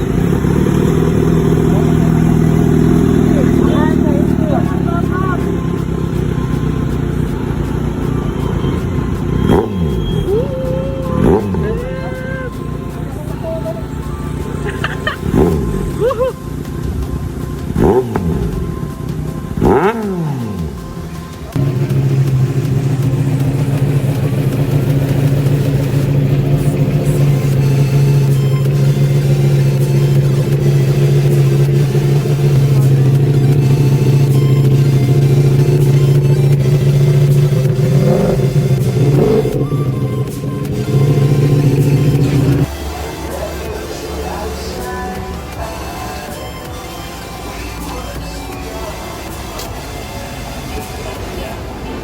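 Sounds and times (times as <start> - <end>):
motorcycles speeding past: 0.0 - 48.6
running engines: 0.0 - 52.0.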